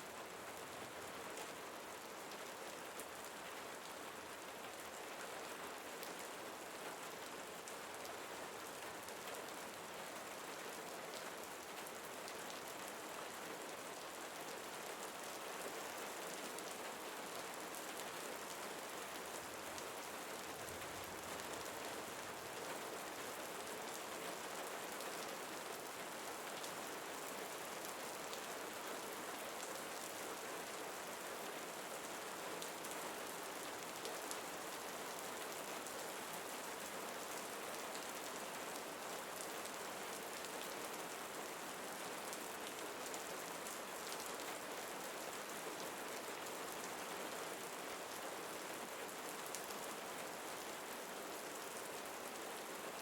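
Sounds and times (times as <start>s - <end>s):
rain pattering on a surface: 0.1s - 53.0s.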